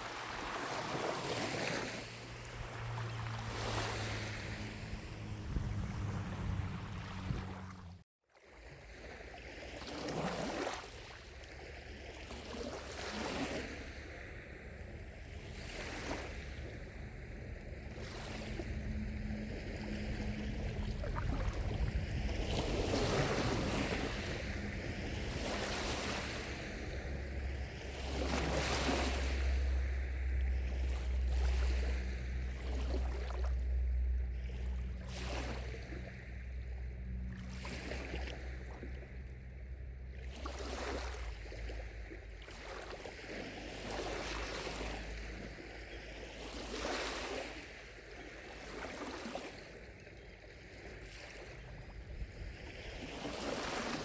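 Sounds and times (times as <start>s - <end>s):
waves lapping at shore: 0.0s - 54.0s
steady low rumble: 1.9s - 8.0s, 13.6s - 46.6s, 49.7s - 54.0s.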